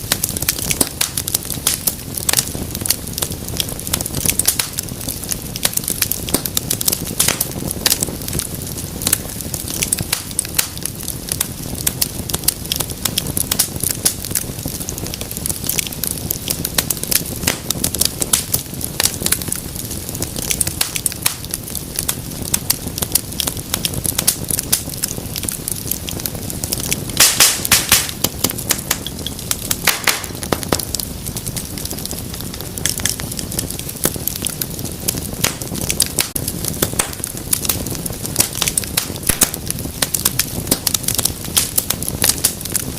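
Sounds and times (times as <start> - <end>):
low rush of flame: 0.0 - 42.9
wood fire crackling: 0.0 - 42.9.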